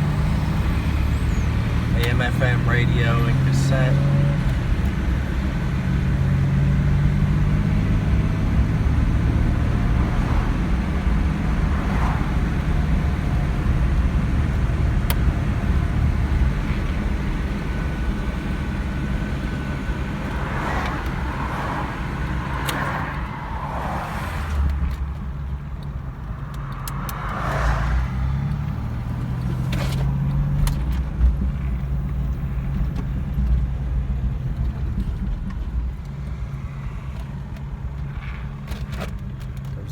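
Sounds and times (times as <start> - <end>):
car engine running: 0.0 - 39.9
road noise inside car: 0.0 - 39.9.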